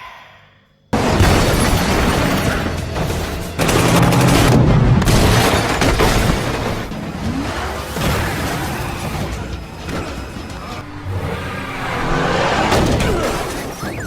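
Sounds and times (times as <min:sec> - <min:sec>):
dramatic action music: 0:00.9 - 0:14.0
heavy booming impacts: 0:01.0 - 0:13.3
sharp hits: 0:01.0 - 0:14.0.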